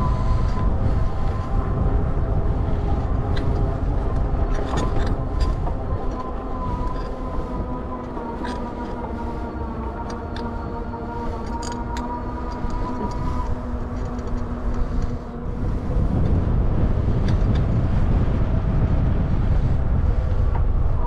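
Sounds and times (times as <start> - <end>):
train whine: 0.0 - 21.0.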